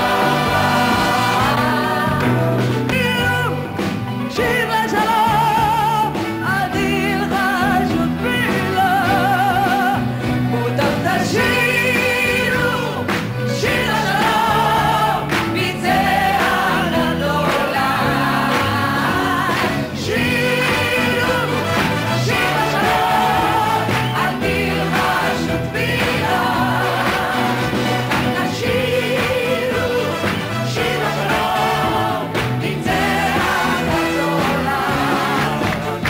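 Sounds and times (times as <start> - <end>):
group singing: 0.0 - 36.0
piano and band accompaniment: 0.0 - 36.0.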